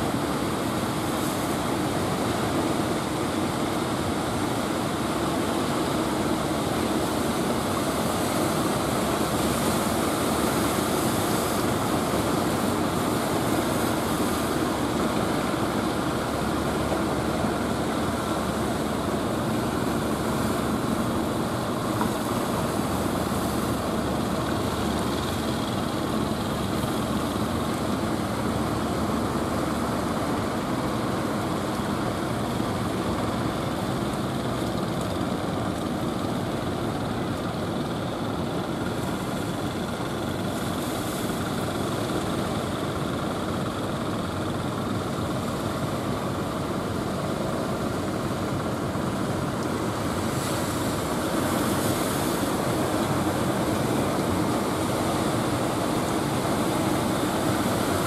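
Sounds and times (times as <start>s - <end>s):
boat engines droning: 0.0s - 58.0s
surf washing: 0.0s - 58.0s
wind: 0.0s - 58.0s.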